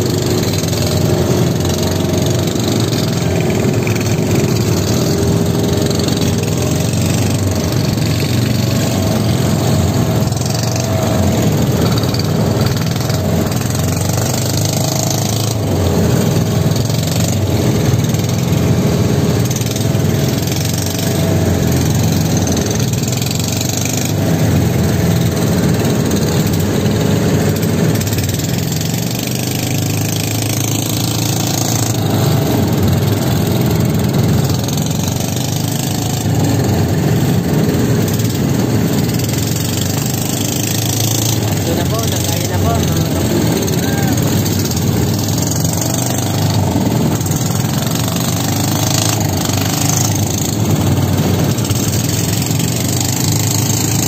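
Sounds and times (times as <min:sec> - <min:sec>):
boat engine running: 0:00.0 - 0:54.0
water splashing along hull: 0:00.0 - 0:54.0.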